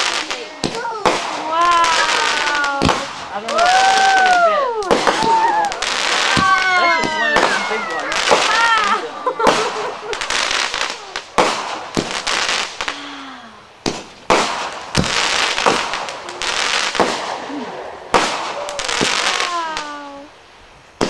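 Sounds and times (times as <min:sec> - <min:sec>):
fireworks bangs with crackling: 0:00.0 - 0:21.0.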